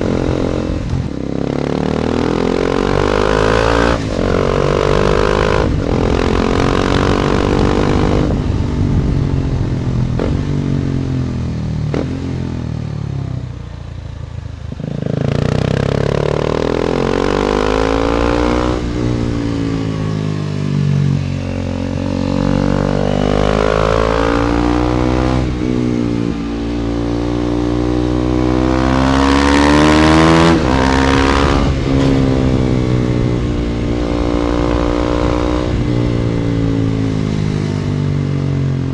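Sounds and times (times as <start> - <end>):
wind noise on microphone: 0.0 - 12.1, 16.7 - 38.9
motorcycle engine accelerating: 0.0 - 38.9.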